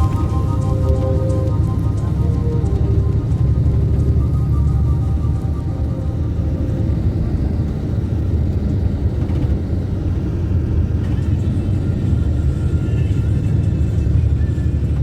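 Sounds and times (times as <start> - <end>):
road and wind noise: 0.0 - 15.0
vehicle rumble: 0.0 - 15.0.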